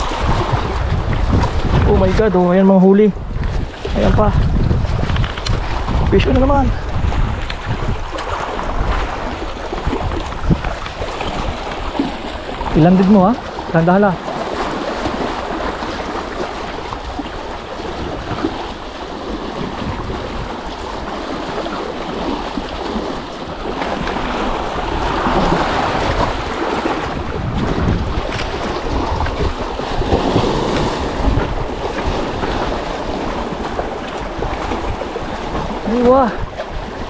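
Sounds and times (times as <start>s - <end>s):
waves breaking over rocks: 0.0s - 37.0s
wind buffeting microphone: 0.0s - 37.0s.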